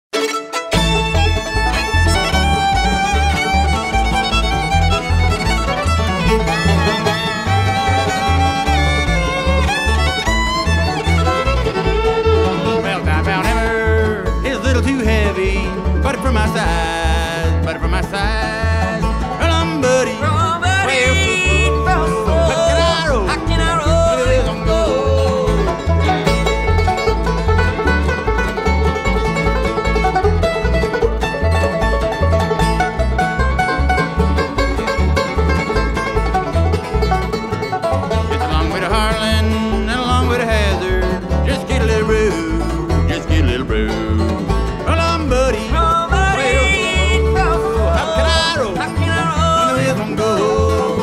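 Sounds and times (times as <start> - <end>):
banjo picking: 0.1 - 51.0
bluegrass band playing: 0.1 - 51.0
guitar picking: 0.1 - 51.0
sliding lead melody: 0.1 - 51.0
bass notes: 0.2 - 51.0.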